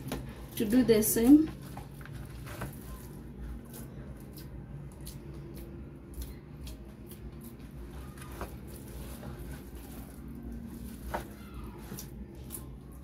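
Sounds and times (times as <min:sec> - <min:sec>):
dough squishing: 0:00.0 - 0:13.0.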